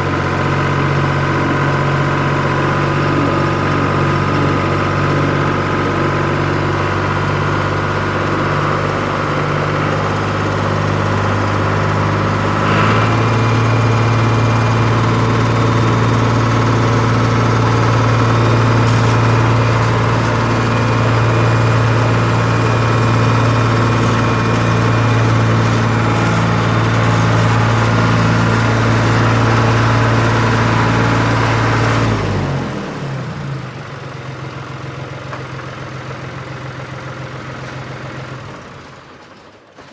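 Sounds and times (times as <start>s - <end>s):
engine idling: 0.0s - 39.8s.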